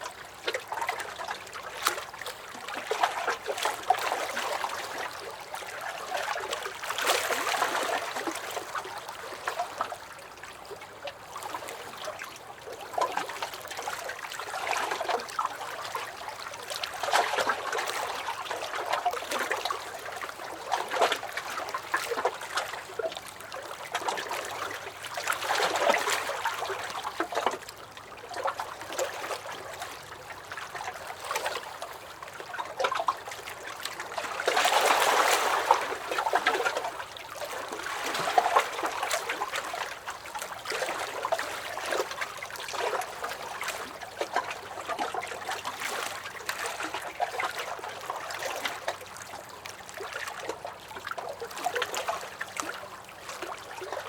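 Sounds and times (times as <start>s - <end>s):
lake waves lapping against dock: 0.0s - 54.0s.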